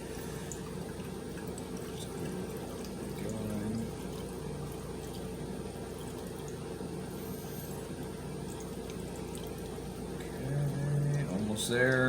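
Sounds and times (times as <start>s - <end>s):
water pouring through a funnel: 0.0s - 12.0s.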